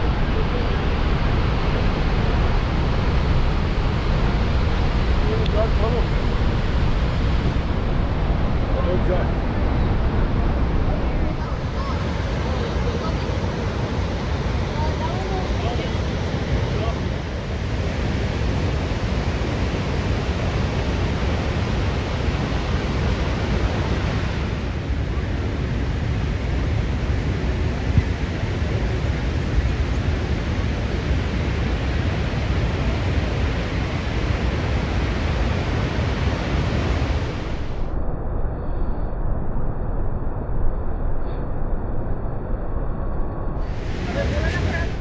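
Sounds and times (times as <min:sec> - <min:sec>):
waterfall roaring: 0:00.0 - 0:37.8, 0:43.6 - 0:45.0.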